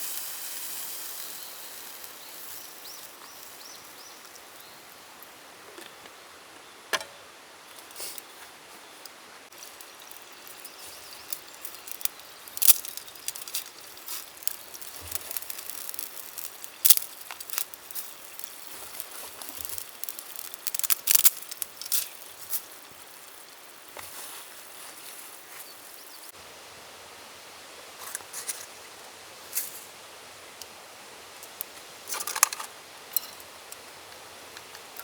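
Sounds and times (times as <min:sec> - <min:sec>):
soft steady hiss: 0:00.0 - 0:35.0.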